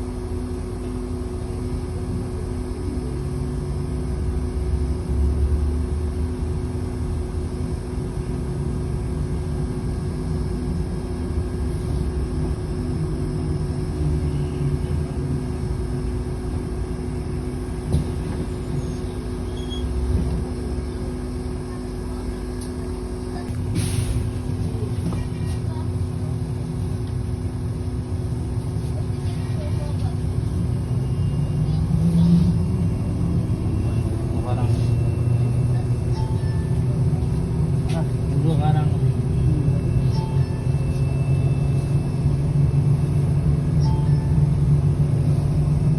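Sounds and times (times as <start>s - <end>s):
bus engine and road rumble: 0.0s - 45.9s
constant low hum: 0.0s - 45.9s.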